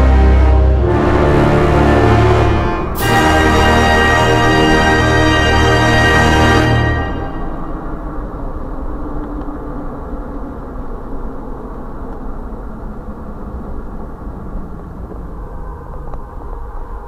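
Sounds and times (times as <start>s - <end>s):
engine rumble: 0.0s - 17.0s.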